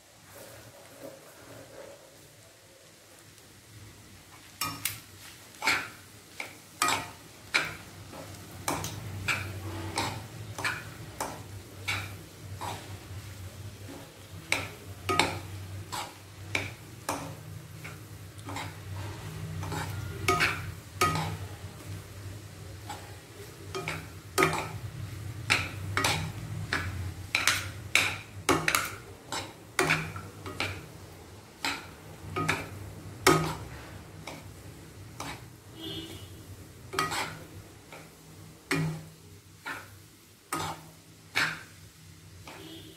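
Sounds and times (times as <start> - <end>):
spatulas scraping a pan: 4.6 - 41.8, 42.4 - 42.9.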